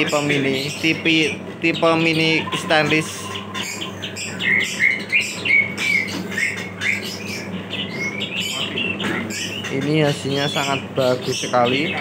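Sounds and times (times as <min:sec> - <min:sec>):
small songbird chirping: 0:00.0 - 0:12.0.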